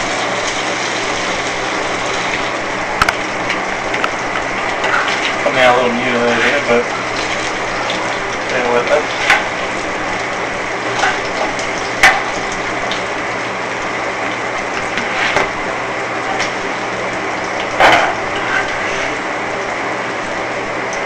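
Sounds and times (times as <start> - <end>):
oil sizzling in a frying pan: 0.0 - 21.0.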